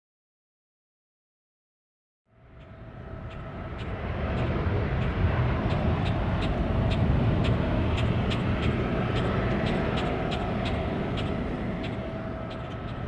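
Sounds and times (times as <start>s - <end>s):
jet aircraft rumble and whine: 2.4s - 13.0s.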